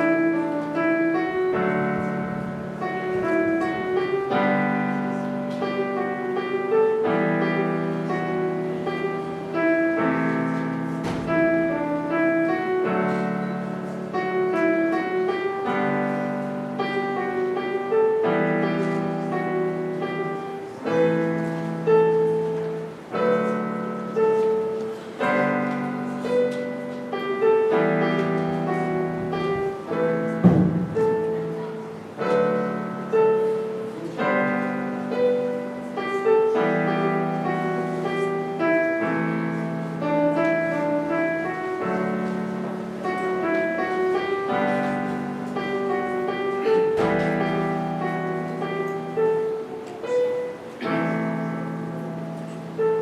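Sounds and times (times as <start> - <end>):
slow gentle piano piece: 0.0 - 53.0.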